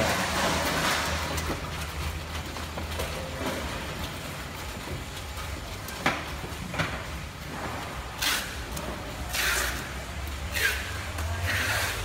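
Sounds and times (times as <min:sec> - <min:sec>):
plastic crates scraping on concrete: 0:00.0 - 0:12.0.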